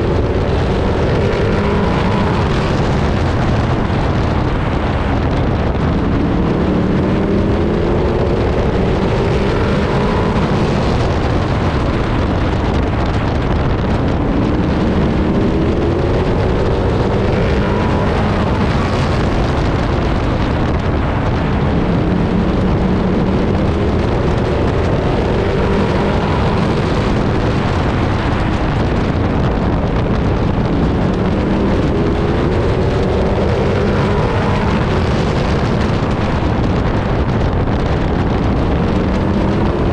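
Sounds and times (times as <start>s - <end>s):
race truck engine revving: 0.0s - 39.9s
wind noise on microphone: 0.0s - 39.9s.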